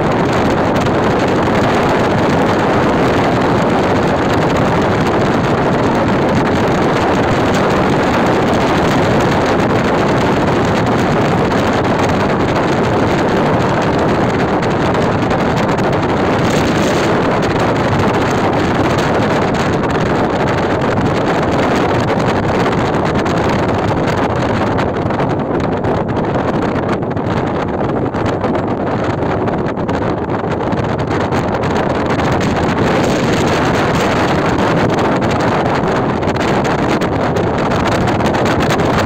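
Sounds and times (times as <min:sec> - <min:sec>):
car tyre and engine noise: 0:00.0 - 0:39.0
wind rushing over microphone: 0:00.0 - 0:39.0.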